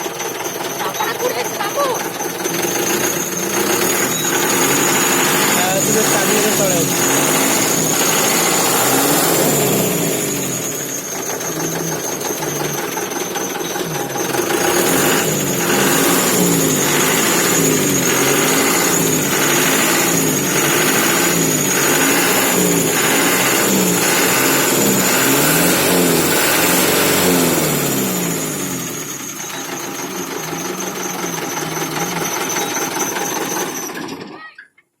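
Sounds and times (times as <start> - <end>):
steady high whine: 0.0 - 31.6
truck engine revving: 0.0 - 34.2.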